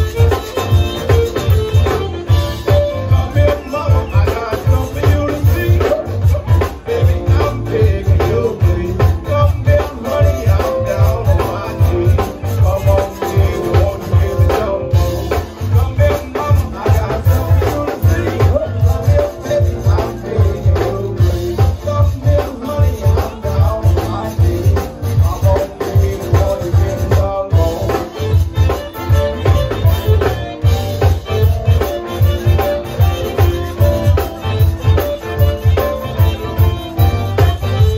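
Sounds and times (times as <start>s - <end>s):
accordion: 0.0s - 37.9s
drum kit: 0.0s - 37.9s
electric bass: 0.0s - 37.9s
electric guitar: 0.0s - 37.9s.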